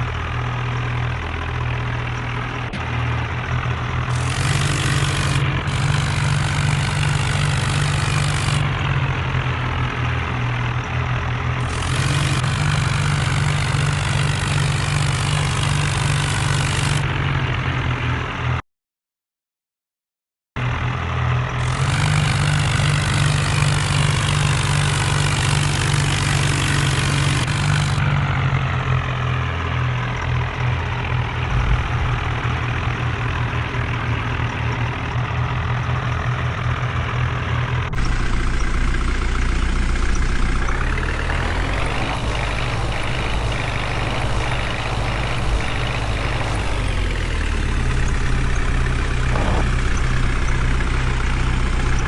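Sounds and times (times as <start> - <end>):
tractor diesel engines straining: 0.0 - 18.6, 20.6 - 52.0.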